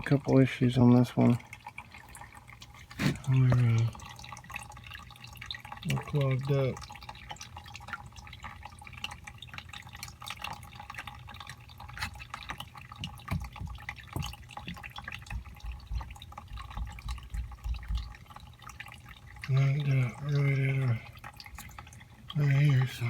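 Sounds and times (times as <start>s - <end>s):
low steady hum: 0.0s - 23.0s
water dripping and splashing: 0.0s - 23.0s.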